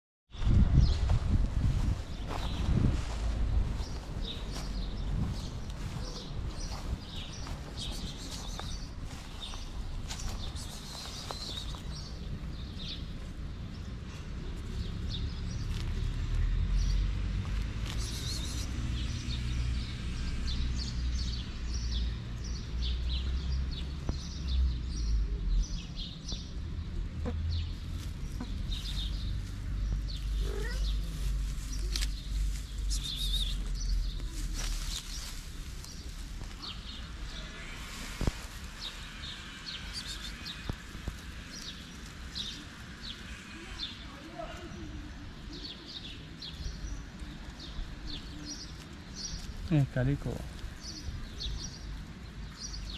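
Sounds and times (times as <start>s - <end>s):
birds chirping: 1.7s - 52.9s.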